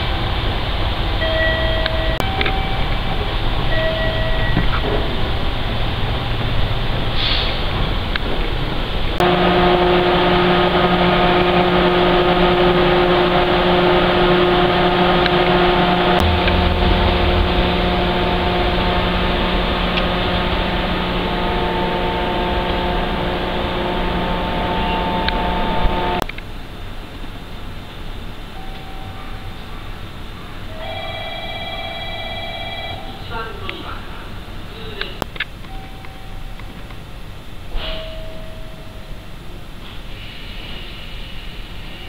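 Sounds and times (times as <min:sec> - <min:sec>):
multi-tone hum of standing train: 0:00.0 - 0:42.0.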